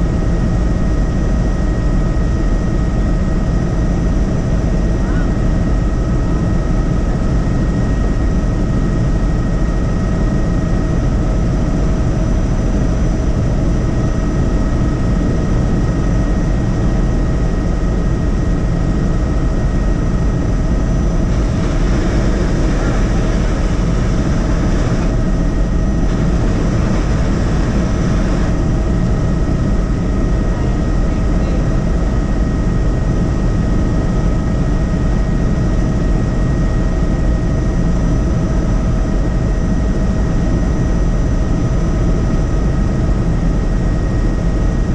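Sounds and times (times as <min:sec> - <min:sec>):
helicopter rotor and engine drone: 0:00.0 - 0:44.9
constant whining tones: 0:00.1 - 0:37.3.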